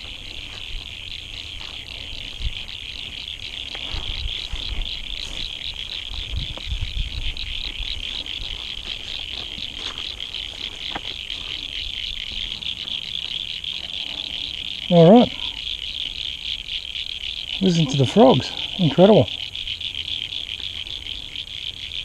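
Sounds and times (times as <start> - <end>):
frogs calling: 0.0 - 22.0.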